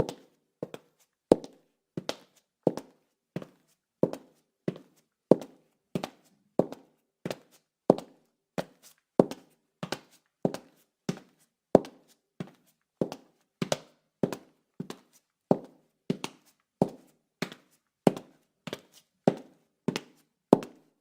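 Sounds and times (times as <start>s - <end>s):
high heels on tile floor: 0.0s - 20.9s.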